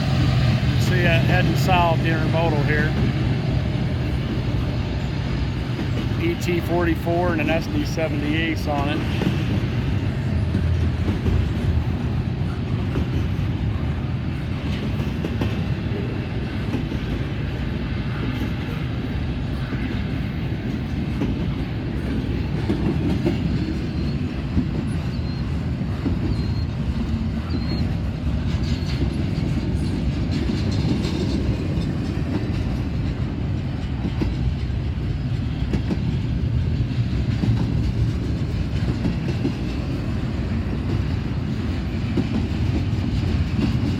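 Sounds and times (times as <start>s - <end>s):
train wheels rumbling on track: 0.0s - 43.9s.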